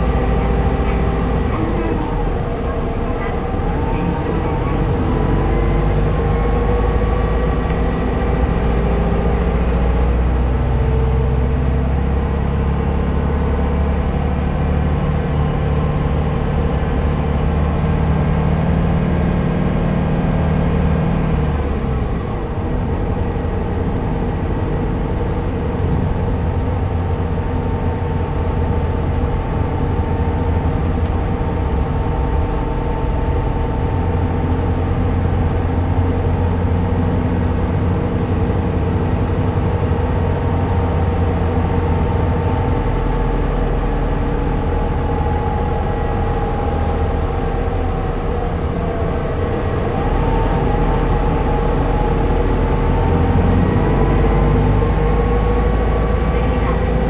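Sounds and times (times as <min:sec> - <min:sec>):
bus engine hum: 0:00.0 - 0:57.0.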